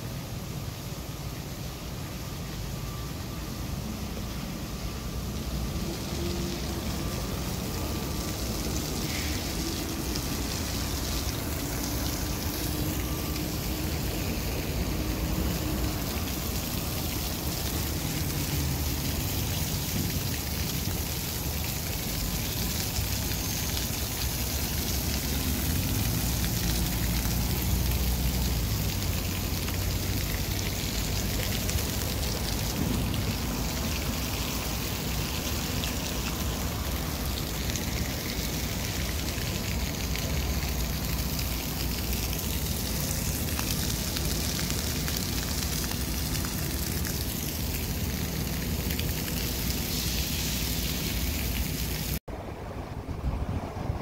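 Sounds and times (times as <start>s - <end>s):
fountain water splashing: 0.0s - 54.0s
city traffic rumbling: 0.5s - 54.0s.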